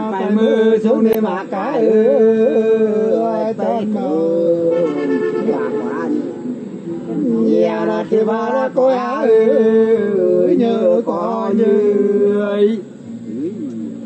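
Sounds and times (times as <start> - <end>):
men singing unaccompanied: 0.0 - 14.0.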